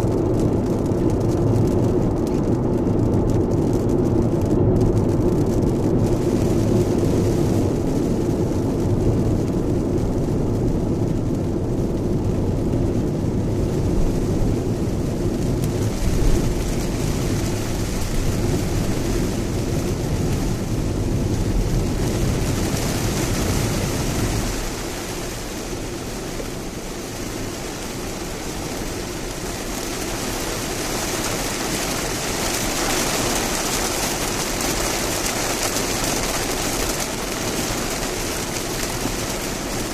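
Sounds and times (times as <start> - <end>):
rain hissing on car: 0.0 - 39.9.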